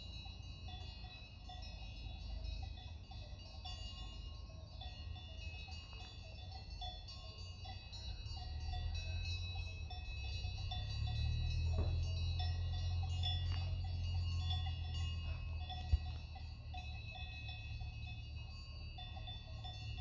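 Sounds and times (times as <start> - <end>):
sustained high ringing tones: 0.0 - 20.0.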